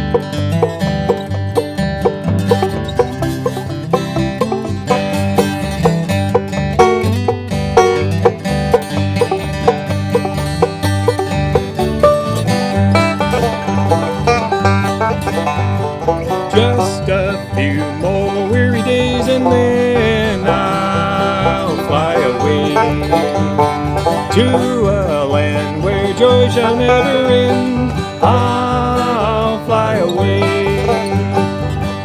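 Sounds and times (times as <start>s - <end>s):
banjo picking: 0.0s - 32.0s
bass beat: 0.0s - 32.0s.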